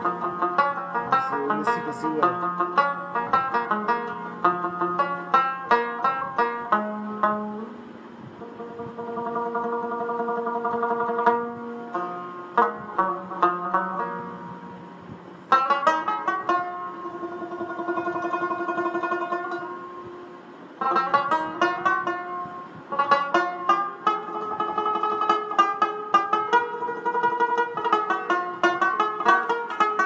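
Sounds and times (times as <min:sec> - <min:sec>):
plucked string instrument music: 0:00.0 - 0:30.0.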